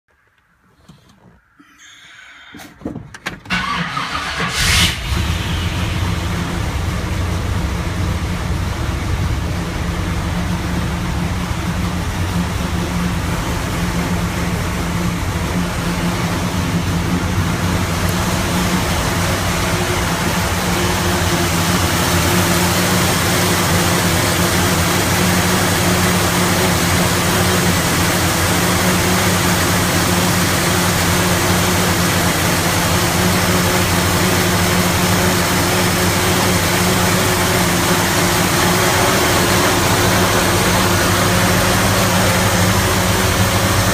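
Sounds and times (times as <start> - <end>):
car engine idling roughly: 3.4 - 43.9.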